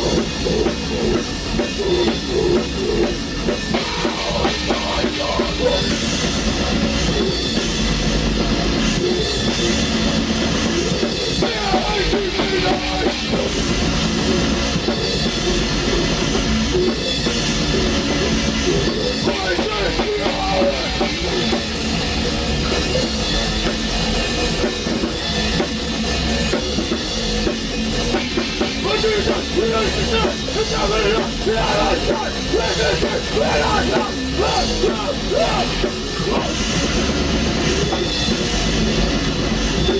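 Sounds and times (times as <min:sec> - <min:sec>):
black metal band playing: 0:00.0 - 0:39.9
distorted guitars: 0:00.0 - 0:39.9
fast drum kit: 0:00.0 - 0:39.9.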